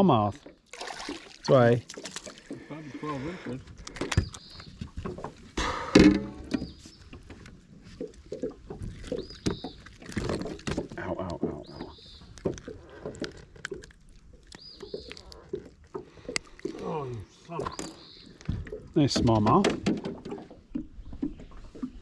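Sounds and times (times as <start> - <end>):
fish thrashing and splashing: 0.4 - 3.0, 3.7 - 19.0.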